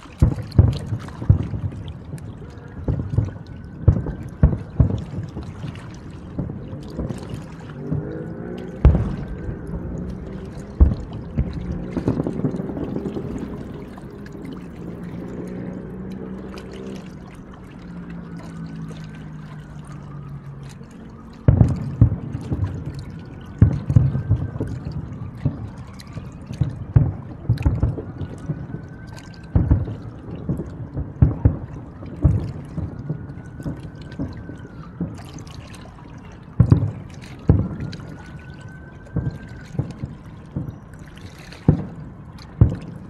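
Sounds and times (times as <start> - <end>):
fireworks booms and crackles: 0.1 - 16.0, 21.4 - 35.5, 36.4 - 40.8, 41.6 - 43.0
low droning with sinking tones: 0.6 - 43.0.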